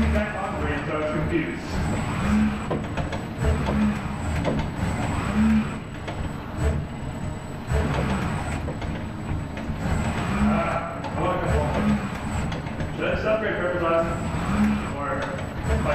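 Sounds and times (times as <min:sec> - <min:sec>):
robot arm motors humming: 0:00.0 - 0:15.9.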